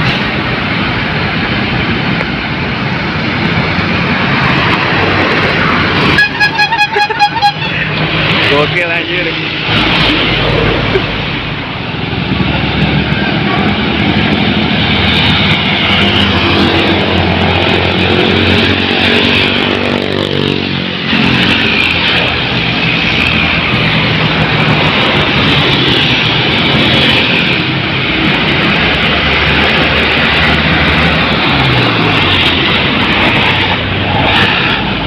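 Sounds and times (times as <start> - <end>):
heavy traffic passing: 0.0 - 35.0.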